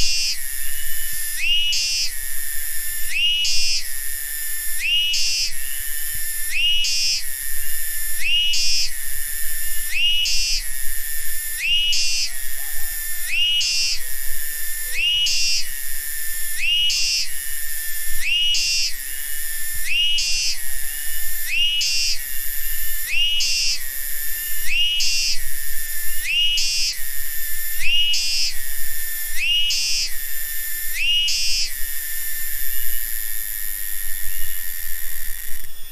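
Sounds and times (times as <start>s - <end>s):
cicada singing: 0.0s - 35.9s.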